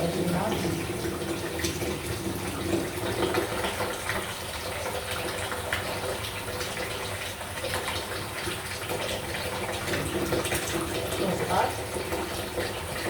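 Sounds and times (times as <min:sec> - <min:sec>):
water running from a pipe: 0:00.0 - 0:13.0.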